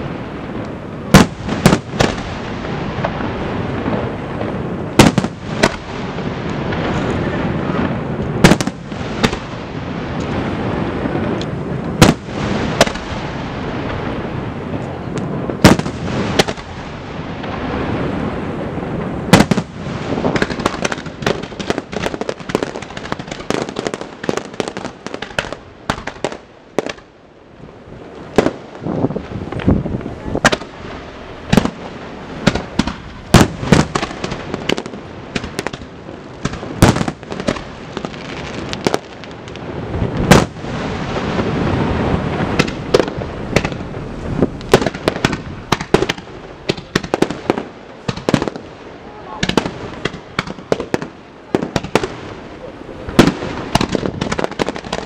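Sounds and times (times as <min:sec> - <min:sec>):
fireworks bursting with loud bangs: 0:00.0 - 0:55.0
fireworks crackling: 0:00.0 - 0:55.0.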